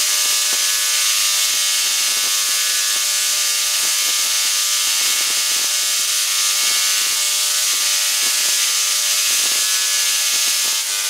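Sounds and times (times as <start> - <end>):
spark crackles: 0.0 - 10.8
tesla coil buzzing: 0.0 - 11.0.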